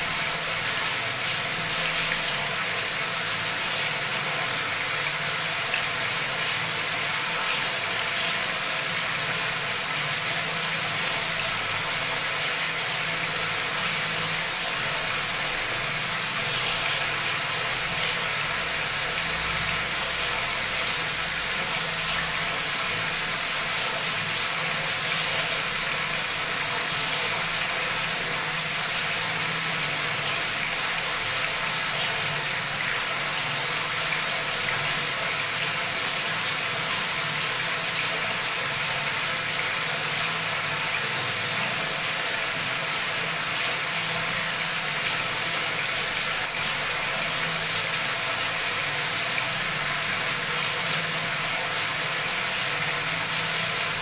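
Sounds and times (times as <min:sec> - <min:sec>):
tap water splashing into tub: 0:00.0 - 0:54.0.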